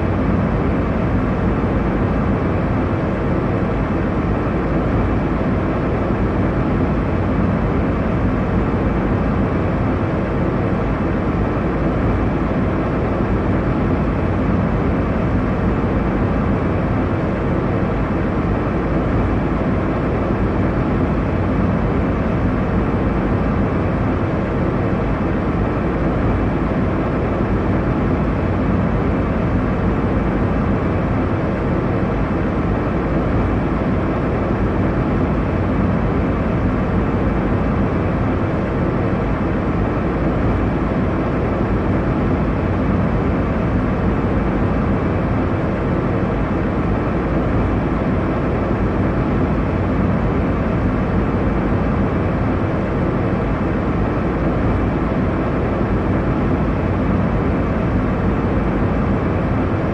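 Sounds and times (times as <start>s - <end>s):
airliner cabin engine roar: 0.0s - 59.9s
faint hum tones: 0.0s - 59.9s.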